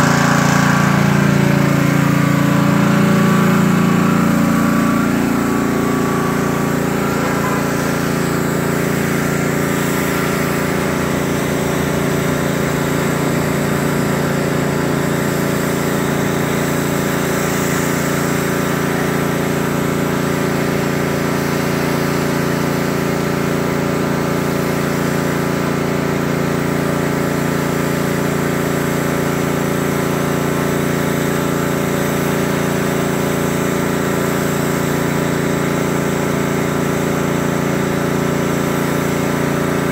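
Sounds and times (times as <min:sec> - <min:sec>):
small engine running: 0:00.0 - 0:39.9
water jet hissing on concrete: 0:00.0 - 0:39.9.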